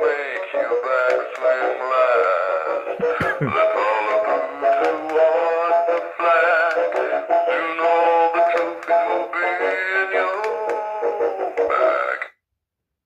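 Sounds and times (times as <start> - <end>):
man singing over backing track: 0.0 - 12.3.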